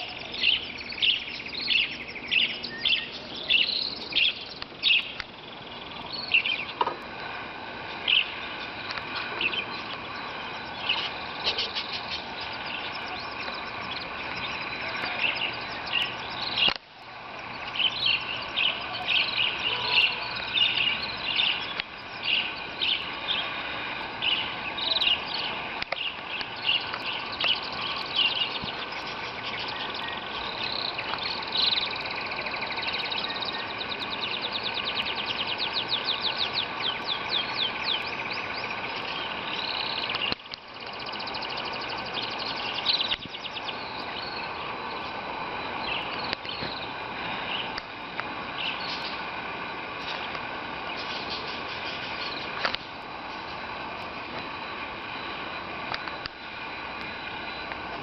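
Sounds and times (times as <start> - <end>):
canaries singing: 0.0 - 55.4.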